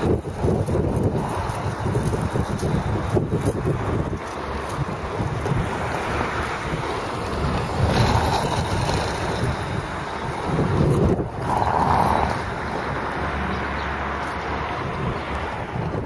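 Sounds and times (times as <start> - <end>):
diesel machinery rumble: 0.0 - 16.0
wind buffeting microphone: 0.0 - 16.0.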